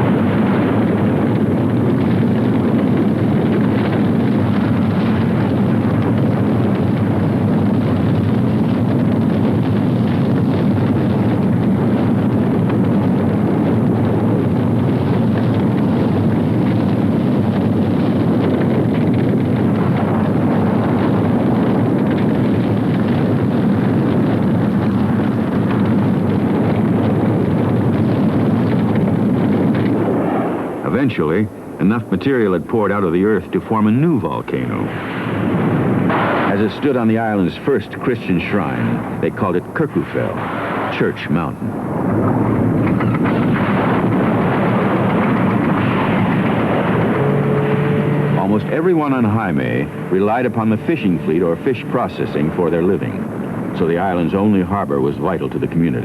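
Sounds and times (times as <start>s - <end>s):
fine crackling: 0.0s - 56.0s
volcanic eruption roar: 0.0s - 56.0s.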